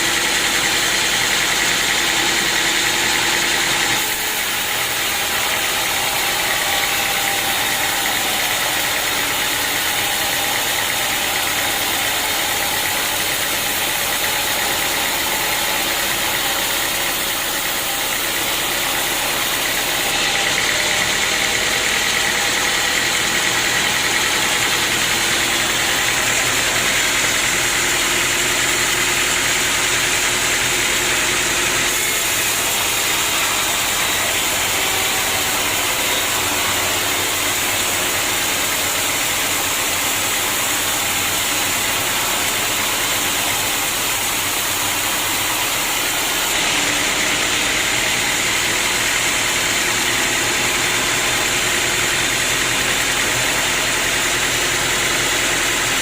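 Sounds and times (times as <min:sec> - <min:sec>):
sawmill machinery drone: 0:00.0 - 0:56.0.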